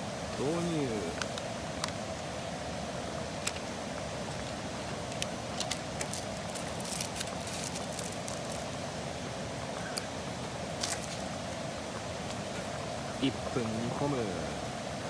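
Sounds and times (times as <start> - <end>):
camp stove flame rushing hum: 0.0 - 15.0.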